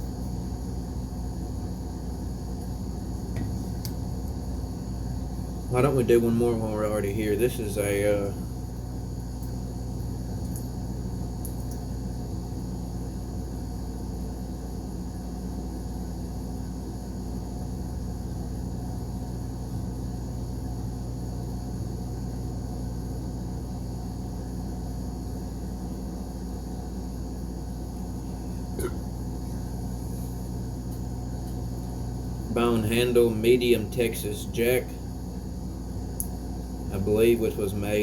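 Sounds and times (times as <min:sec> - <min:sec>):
machine humming: 0:00.0 - 0:38.0.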